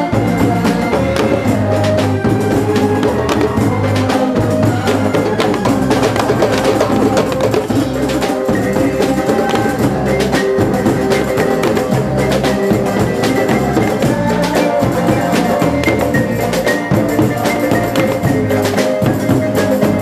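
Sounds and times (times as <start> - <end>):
frame drums played by hand: 0.0 - 20.0.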